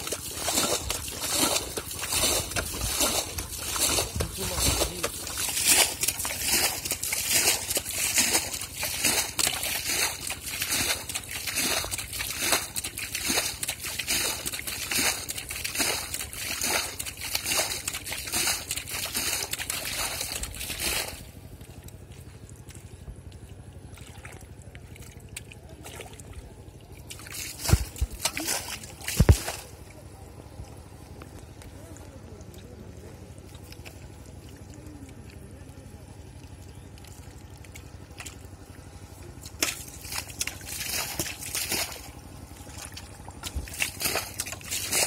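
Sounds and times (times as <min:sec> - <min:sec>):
faint water trickle: 0:00.0 - 0:45.0
muddy water splashing by hand: 0:00.0 - 0:45.0.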